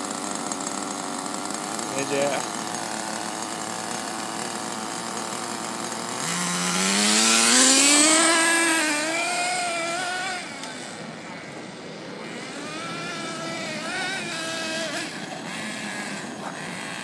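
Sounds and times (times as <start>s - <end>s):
rc buggy engine revving: 0.0s - 17.0s.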